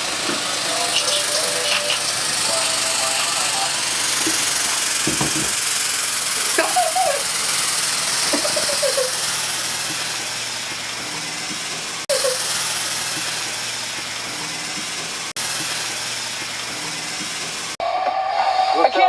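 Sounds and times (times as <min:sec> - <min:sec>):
fog machine hissing: 0:00.0 - 0:19.0.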